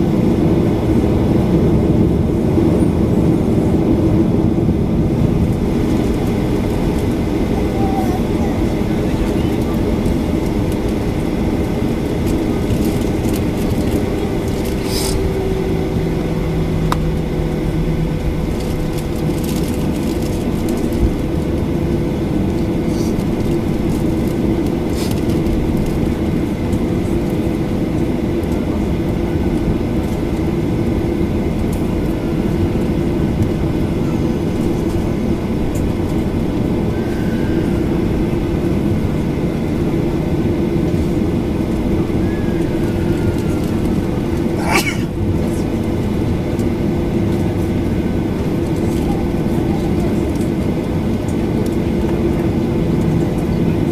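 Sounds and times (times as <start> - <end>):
airplane cabin drone: 0.0 - 53.9.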